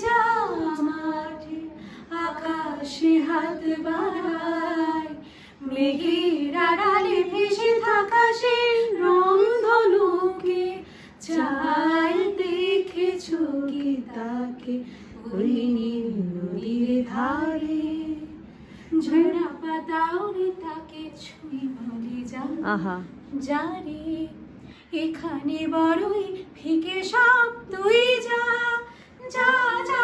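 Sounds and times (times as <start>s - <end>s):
woman singing unaccompanied: 0.0s - 18.3s, 19.0s - 30.0s.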